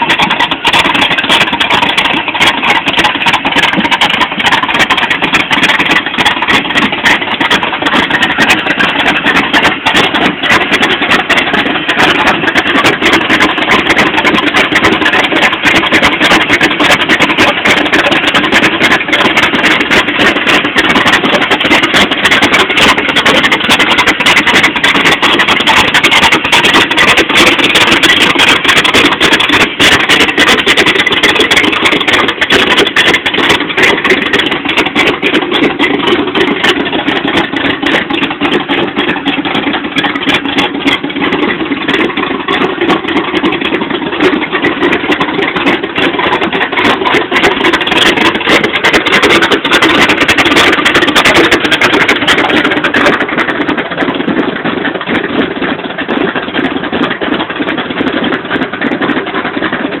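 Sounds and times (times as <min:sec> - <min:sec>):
truck engine idling rough: 0:00.0 - 1:00.0.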